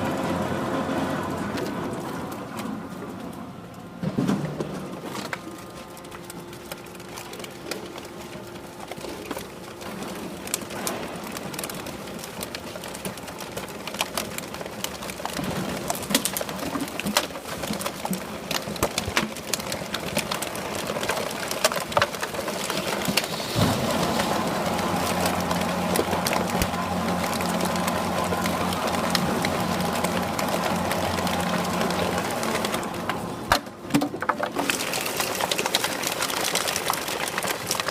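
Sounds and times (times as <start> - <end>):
steady machine hum: 0.0 - 16.8, 19.8 - 33.9
plastic bottles crackling: 4.5 - 37.9.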